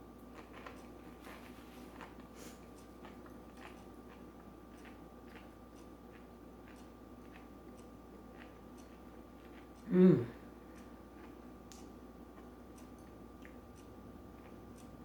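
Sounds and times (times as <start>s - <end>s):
faint electrical hum: 0.0s - 15.0s
chewing and mouth clicks: 0.2s - 9.9s, 10.7s - 15.0s.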